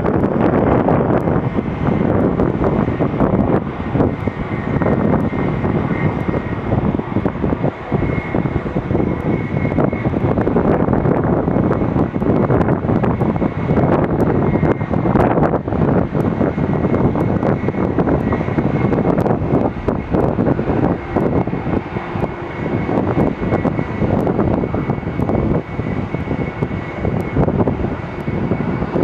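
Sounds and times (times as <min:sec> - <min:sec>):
airliner engines roaring: 0:00.0 - 0:29.0.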